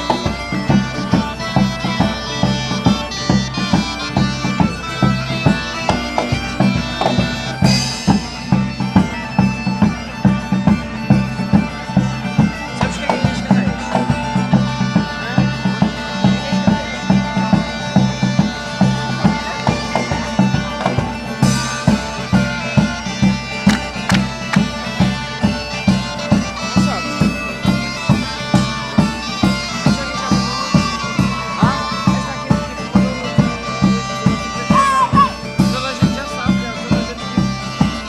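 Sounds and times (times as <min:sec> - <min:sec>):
bagpipes playing folk dance tune: 0:00.0 - 0:38.0
drum beating: 0:00.0 - 0:38.0.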